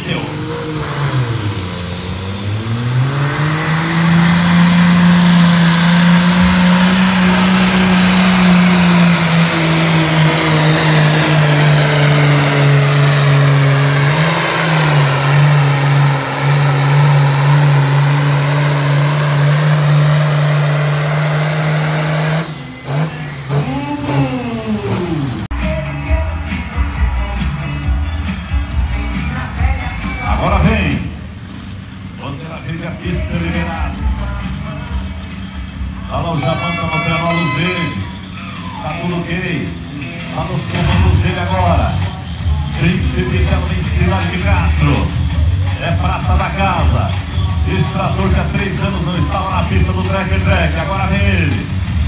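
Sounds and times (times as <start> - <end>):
engine revving: 0.0 - 52.0
tractor diesel engine at full throttle: 0.0 - 52.0.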